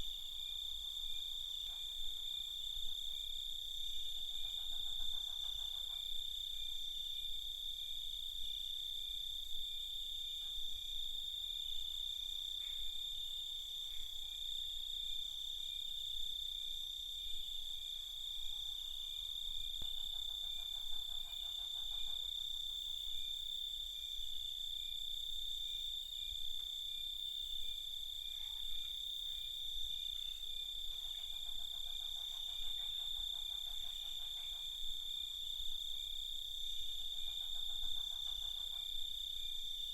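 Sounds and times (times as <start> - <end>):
crickets chirping: 0.0 - 39.9
faint high insect calls: 0.0 - 39.9
low rapidly pulsing insect call: 0.0 - 39.9.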